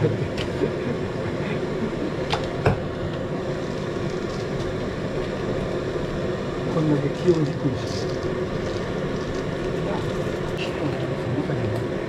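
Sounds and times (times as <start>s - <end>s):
gas stove burner roaring: 0.0s - 12.0s.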